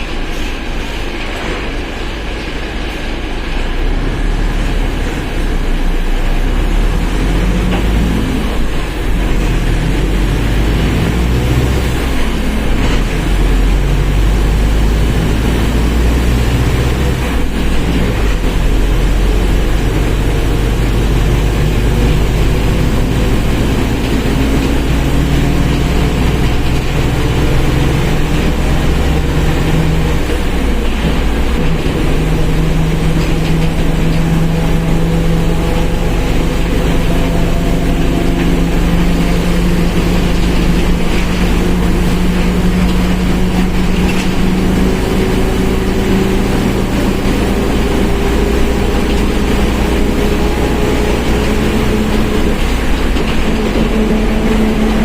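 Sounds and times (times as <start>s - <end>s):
bus diesel engine droning: 0.0s - 55.0s
rear differential whine: 0.0s - 55.0s.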